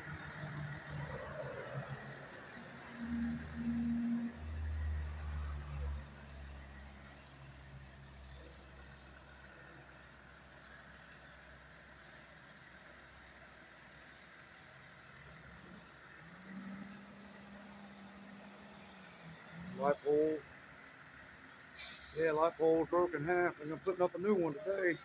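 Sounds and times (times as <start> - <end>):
faint vehicle engine rumble: 0.0 - 25.0.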